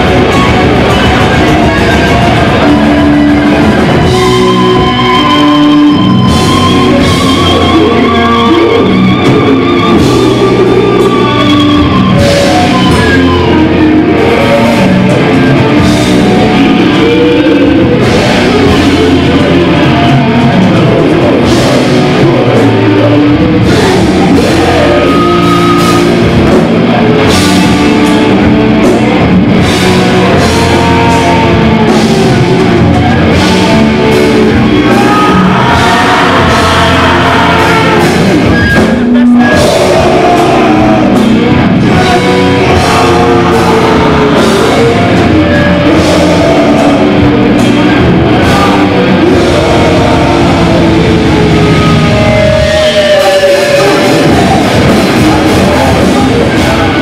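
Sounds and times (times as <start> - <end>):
distorted electric guitars: 0.0 - 57.0
drum kit: 0.0 - 57.0
shouted vocals: 0.0 - 57.0.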